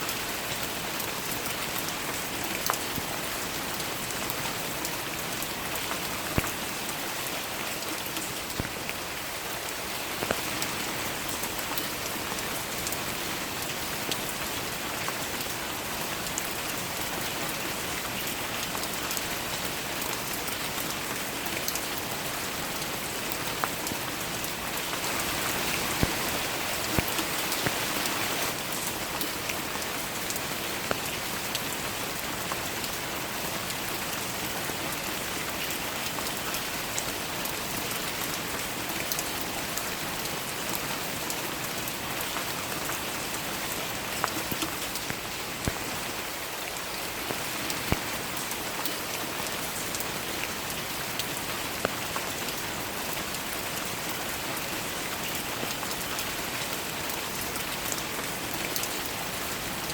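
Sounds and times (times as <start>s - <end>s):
rain falling: 0.0s - 59.9s
raindrops ticking on a surface: 0.0s - 59.9s.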